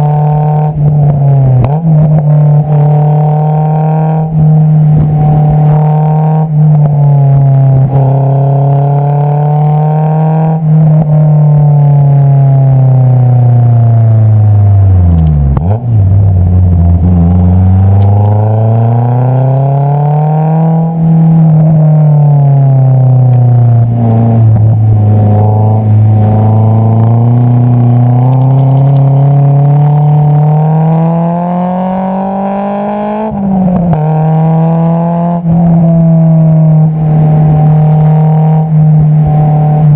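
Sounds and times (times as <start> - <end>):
car exhaust revving while driving: 0.0 - 39.9.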